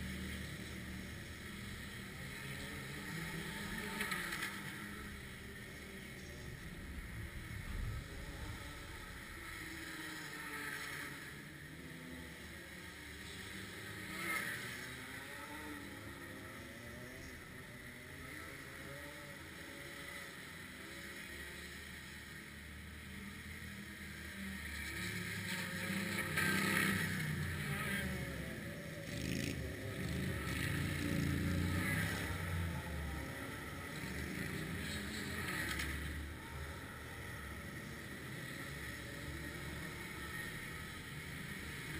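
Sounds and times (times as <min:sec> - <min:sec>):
distant kart engines passing: 0:00.0 - 0:41.9.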